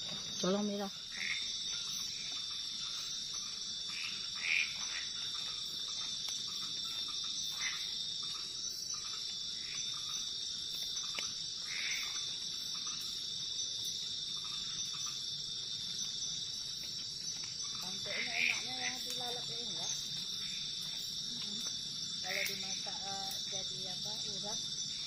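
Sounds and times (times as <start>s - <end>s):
frogs calling: 0.0s - 25.0s
high-pitched insect drone: 0.0s - 25.0s.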